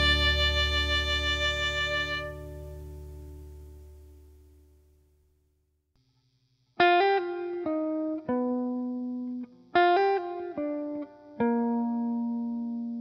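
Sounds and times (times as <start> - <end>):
plucked guitar melody: 0.0 - 4.8, 6.8 - 13.0.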